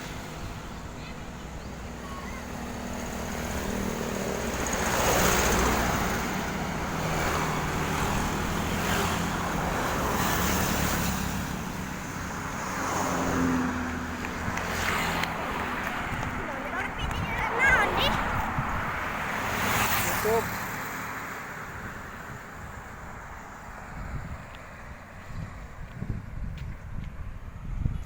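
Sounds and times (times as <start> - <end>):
passing vehicles: 0.0 - 28.0.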